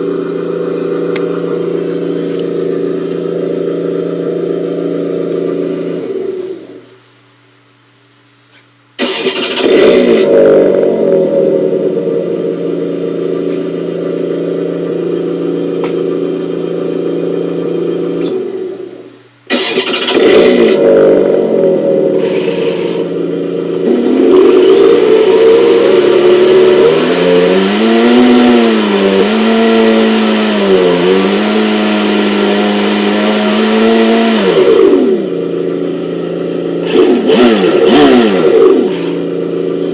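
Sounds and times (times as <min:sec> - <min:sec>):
synthesized car engine revving: 0:00.0 - 0:06.9, 0:09.0 - 0:39.9.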